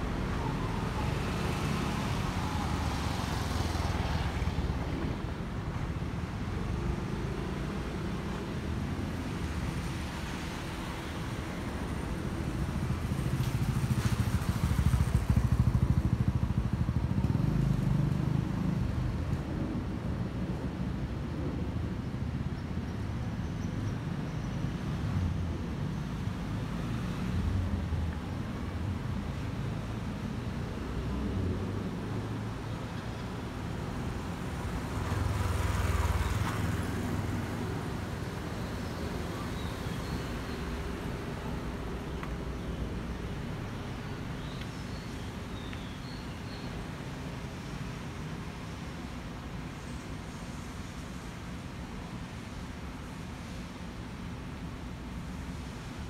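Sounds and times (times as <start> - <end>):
road traffic noise: 0.0 - 56.0.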